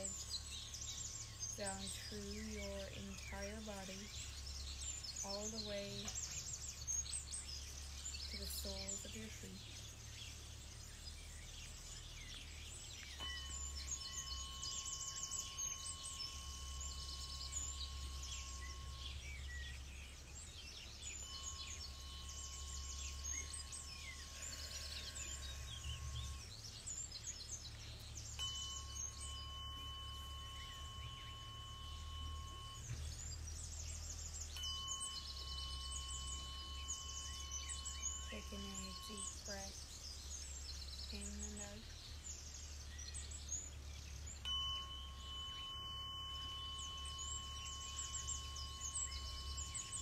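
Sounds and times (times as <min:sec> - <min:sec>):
tuning fork ringing: 0:00.0 - 0:09.6, 0:11.9 - 0:26.6, 0:28.1 - 0:42.0, 0:43.5 - 0:50.0
birds chirping: 0:00.0 - 0:50.0.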